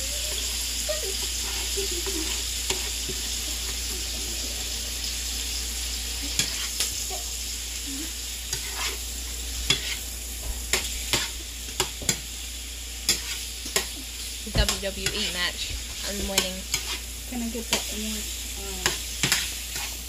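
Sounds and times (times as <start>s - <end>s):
shrimp sizzling in oil: 0.0s - 20.0s.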